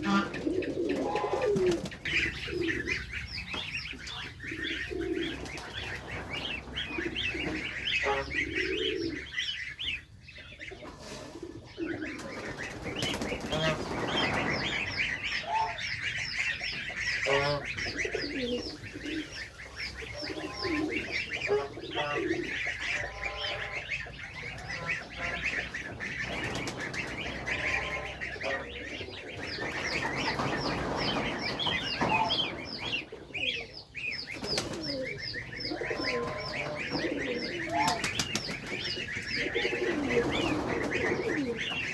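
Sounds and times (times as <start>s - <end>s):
goslings peeping: 0.0s - 41.9s.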